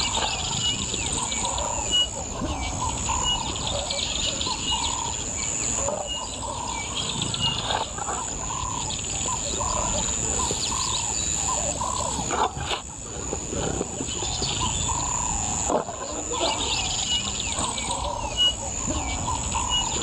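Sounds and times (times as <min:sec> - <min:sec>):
birds calling and chirping: 0:00.0 - 0:20.0
insects droning: 0:00.0 - 0:20.0.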